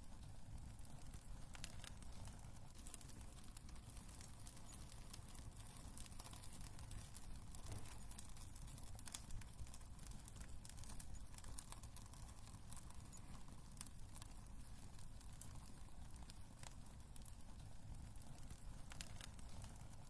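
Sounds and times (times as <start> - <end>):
low rumble of fire: 0.0 - 20.0
wood fire crackling and popping: 0.0 - 20.0.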